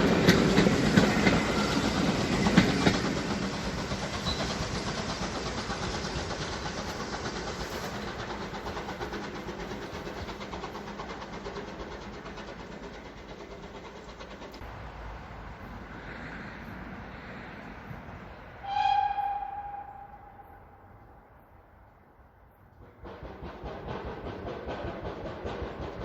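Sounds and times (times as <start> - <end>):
train running: 0.0 - 26.0.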